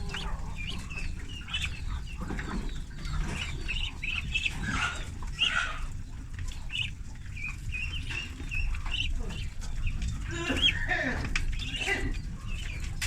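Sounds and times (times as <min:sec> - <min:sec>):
ducklings peeping: 0:00.0 - 0:13.0
low steady rumble: 0:00.0 - 0:13.0.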